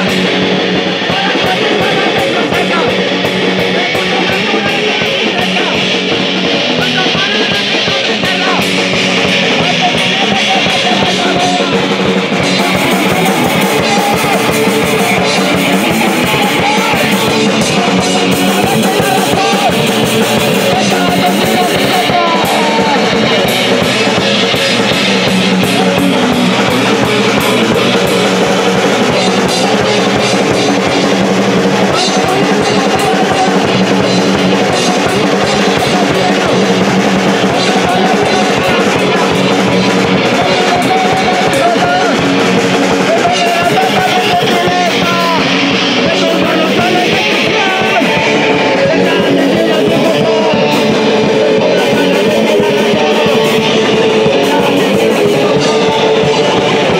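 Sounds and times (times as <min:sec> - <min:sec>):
punk rock band playing: 0:00.0 - 0:56.9.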